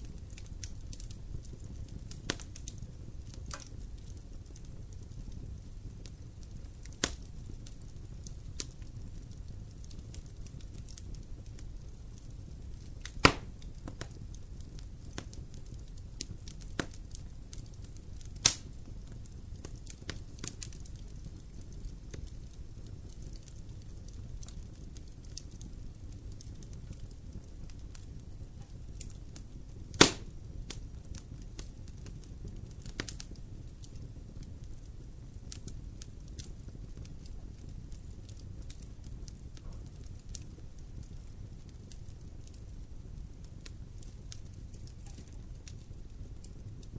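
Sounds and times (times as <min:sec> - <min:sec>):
burning wood popping: 0:00.0 - 0:46.9
fire crackling: 0:00.0 - 0:46.9.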